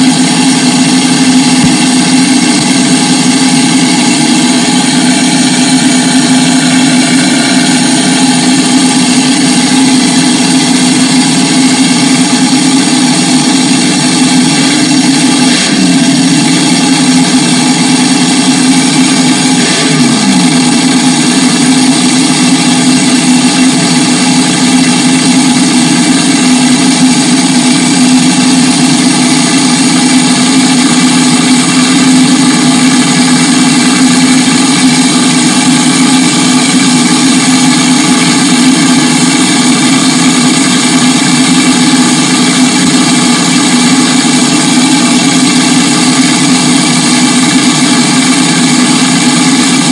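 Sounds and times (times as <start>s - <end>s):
racing car engine running: 0.0s - 49.9s.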